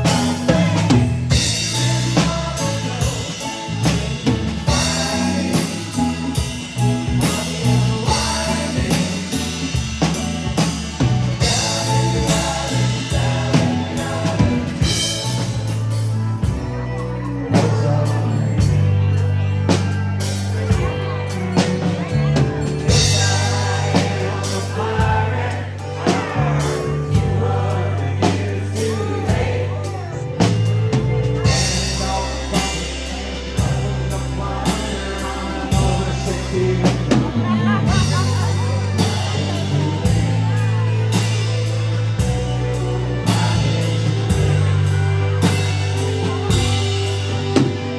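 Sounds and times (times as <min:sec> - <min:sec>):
bass: 0:00.0 - 0:47.9
drum kit: 0:00.0 - 0:47.9
people singing: 0:00.0 - 0:47.9
rock band music: 0:00.0 - 0:47.9.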